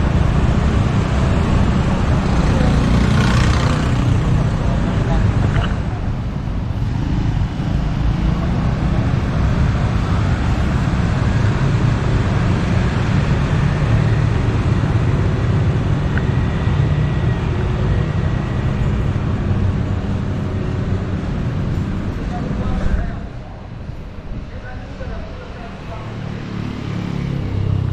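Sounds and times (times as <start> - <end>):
street traffic rumble: 0.0 - 27.9.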